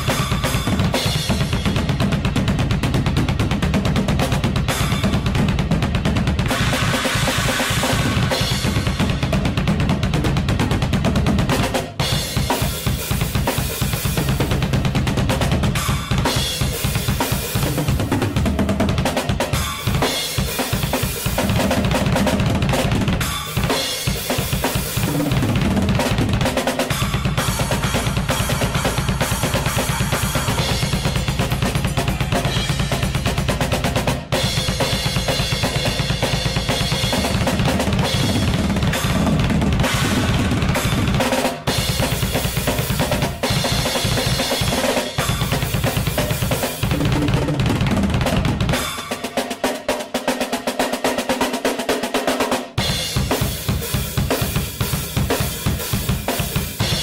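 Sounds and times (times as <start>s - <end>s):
drum kit played hard: 0.0s - 57.0s.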